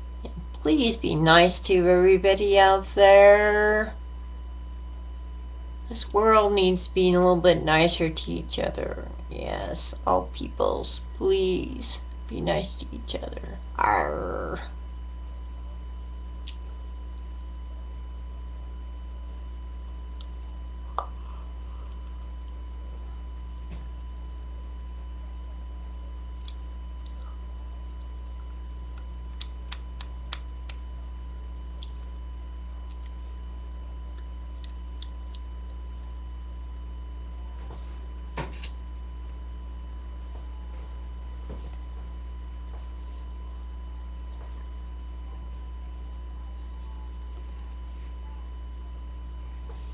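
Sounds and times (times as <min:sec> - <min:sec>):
electrical hum and whine: 0:00.0 - 0:49.9.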